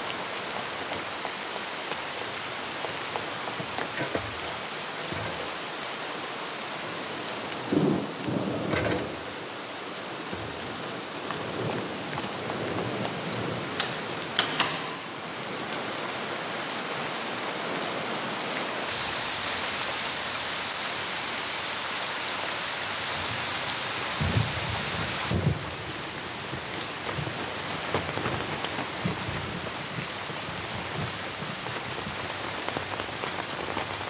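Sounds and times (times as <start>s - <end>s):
rain on wet pavement: 0.0s - 34.0s.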